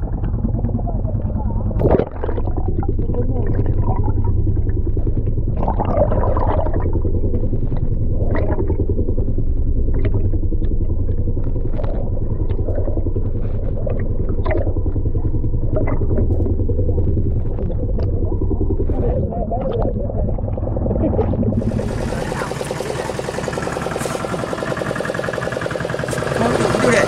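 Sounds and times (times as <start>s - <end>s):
boat engine rumble underwater: 0.0s - 27.0s.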